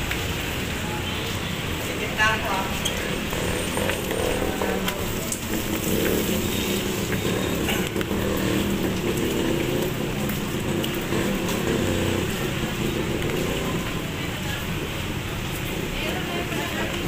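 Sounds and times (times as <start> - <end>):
motor traffic: 0.0 - 17.0
rain patter: 0.0 - 17.0.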